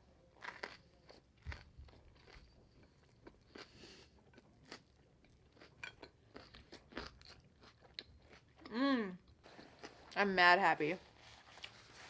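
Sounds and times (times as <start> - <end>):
person chewing crunchy food: 0.2 - 10.2.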